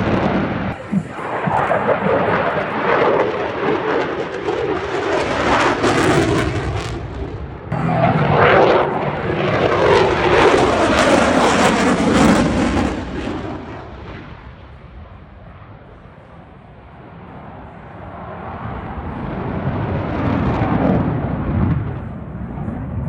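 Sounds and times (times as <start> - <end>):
military jet flying past: 0.0 - 23.0.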